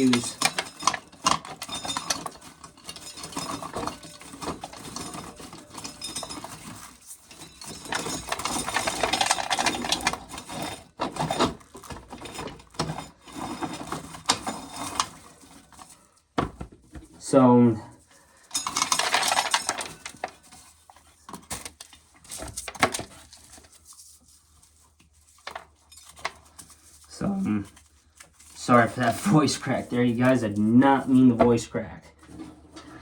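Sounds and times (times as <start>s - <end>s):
corn sheller clattering: 0.0s - 17.4s, 18.1s - 24.0s, 25.2s - 33.0s.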